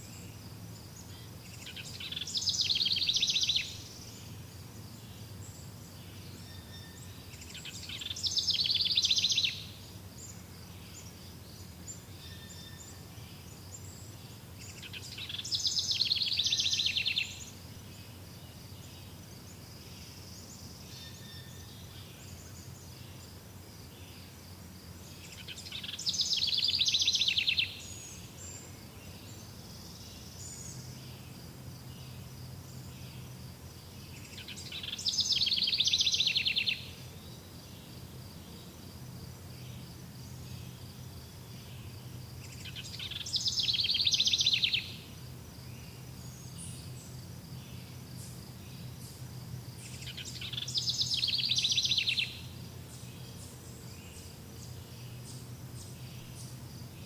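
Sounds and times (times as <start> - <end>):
faint high insect drone: 0.0 - 57.0.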